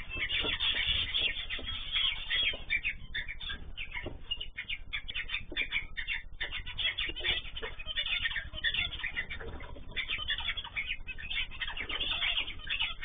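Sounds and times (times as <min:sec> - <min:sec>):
cage birds chirping and calling: 0:00.0 - 0:13.0
low steady hum: 0:00.0 - 0:13.0.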